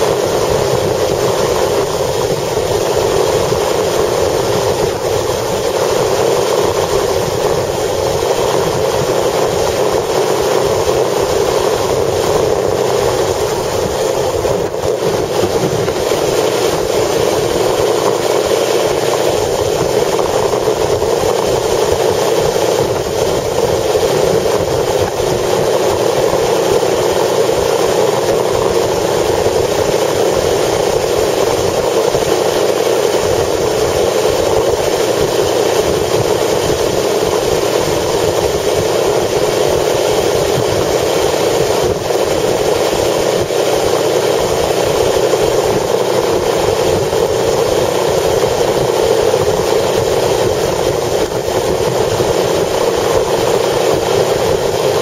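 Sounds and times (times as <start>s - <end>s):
strong wind: 0.0s - 55.0s
vehicle engine and tyre noise: 0.0s - 55.0s.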